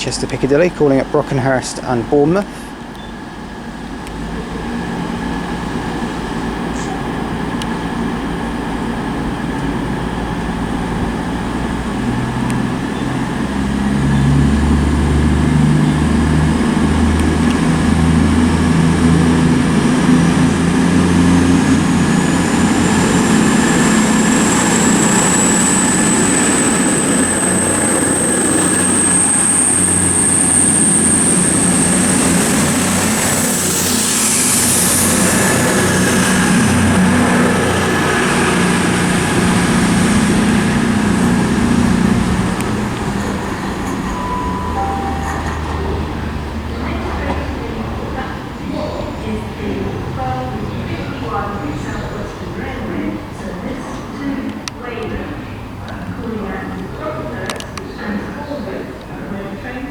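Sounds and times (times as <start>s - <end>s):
high whine: 0.0s - 48.3s
diesel engines revving: 0.0s - 59.3s.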